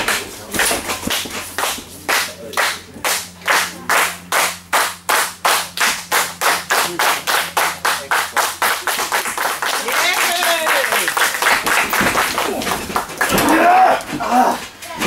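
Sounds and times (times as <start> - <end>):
audience clapping in rhythm: 0.0 - 13.4.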